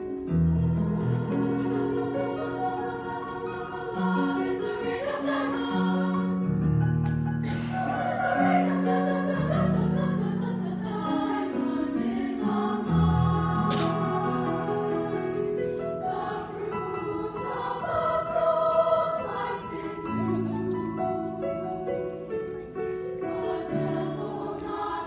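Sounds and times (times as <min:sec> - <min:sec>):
piano accompaniment: 0:00.0 - 0:25.0
women's choir singing: 0:00.1 - 0:25.0.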